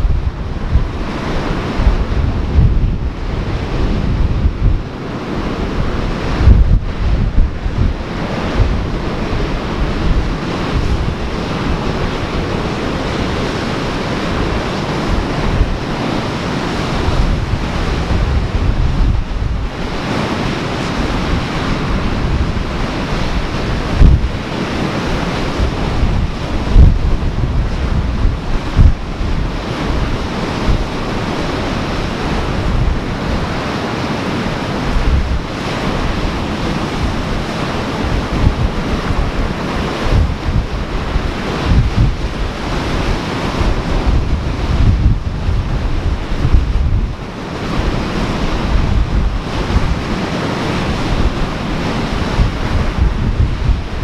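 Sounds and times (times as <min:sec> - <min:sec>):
ocean surf washing: 0:00.0 - 0:54.0
wind buffeting microphone: 0:00.0 - 0:54.0.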